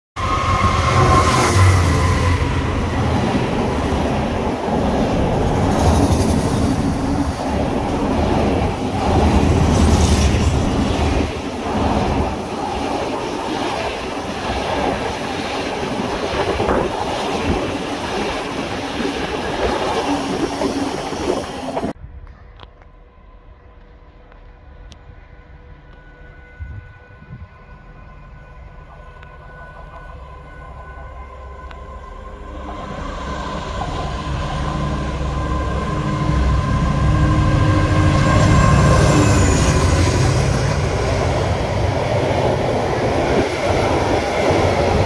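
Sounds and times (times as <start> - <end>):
diesel locomotive engine: 0.2 - 45.0
train wheel rumble: 0.2 - 45.0.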